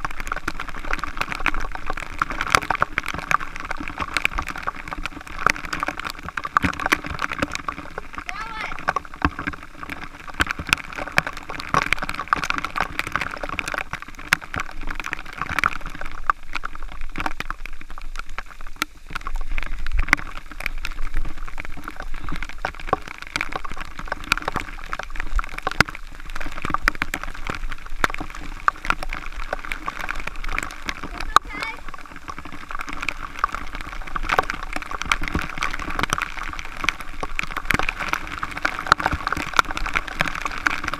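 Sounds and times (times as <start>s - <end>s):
waterfall pouring and splashing: 0.0s - 40.9s.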